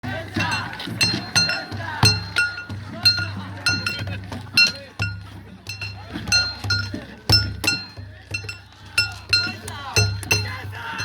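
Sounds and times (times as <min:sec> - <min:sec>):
low drum beats: 0:00.0 - 0:11.0.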